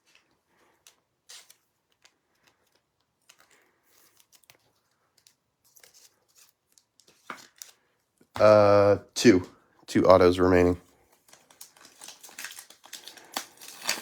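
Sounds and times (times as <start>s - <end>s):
cards and foil wrapper crinkling: 0.0s - 8.6s, 10.6s - 14.0s.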